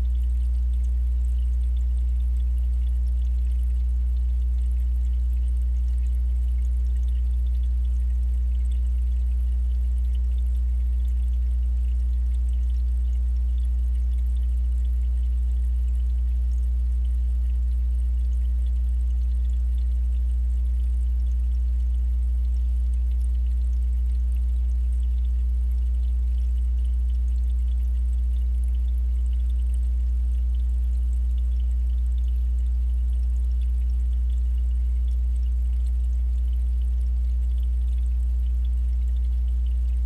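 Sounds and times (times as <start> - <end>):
faint ticks: 0.0 - 40.0
low hum through water: 0.0 - 40.0.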